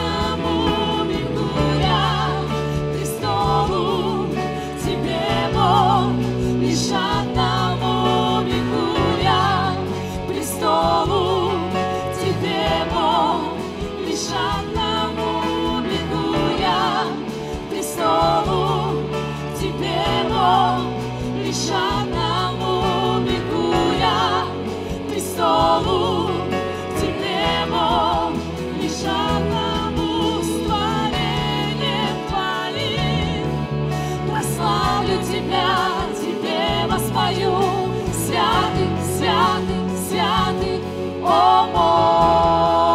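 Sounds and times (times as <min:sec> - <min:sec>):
bass: 0:00.0 - 0:42.9
guitars: 0:00.0 - 0:42.9
keyboards: 0:00.0 - 0:42.9
several singers with vibrato: 0:00.0 - 0:42.9.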